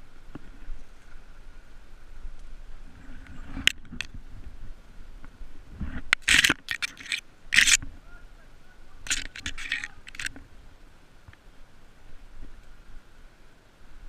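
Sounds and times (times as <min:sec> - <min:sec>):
bush leaves rustling: 0:00.0 - 0:14.0.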